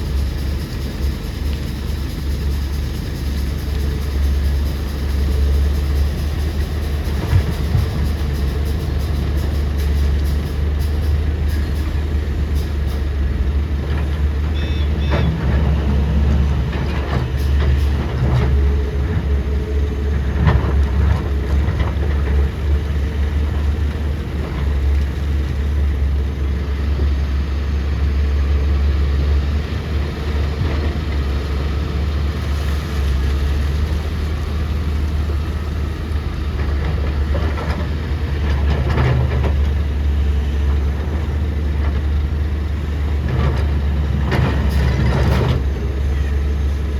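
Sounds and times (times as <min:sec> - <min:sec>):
excavator diesel engine rumbling: 0:00.0 - 0:46.9.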